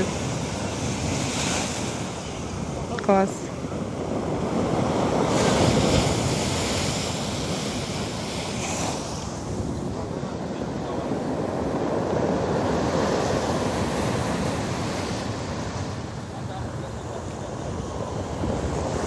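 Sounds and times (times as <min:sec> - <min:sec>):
surf crashing on stony beach: 0:00.0 - 0:19.0
wind buffeting microphone: 0:00.0 - 0:19.0.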